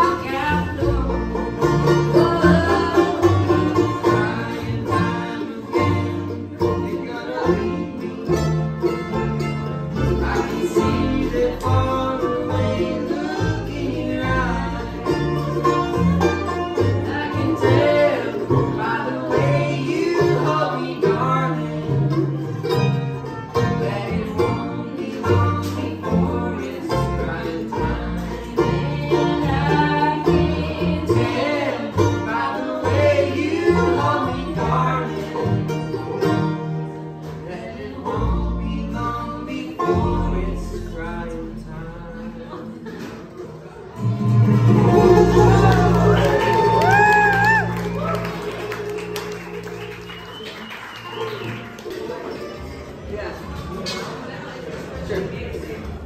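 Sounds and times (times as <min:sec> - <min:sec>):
banjo picking: 0:00.0 - 0:56.0
bluegrass band playing: 0:00.0 - 0:56.0.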